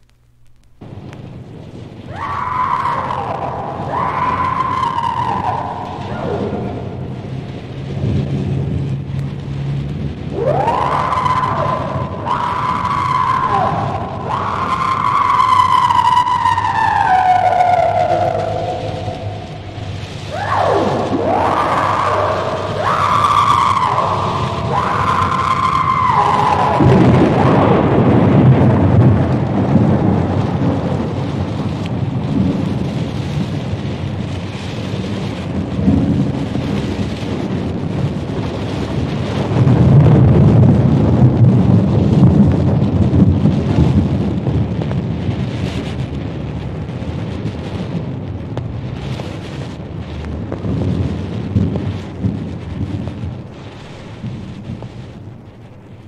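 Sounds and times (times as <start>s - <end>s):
steady rain: 0.0s - 56.0s
rolling thunder: 0.8s - 56.0s.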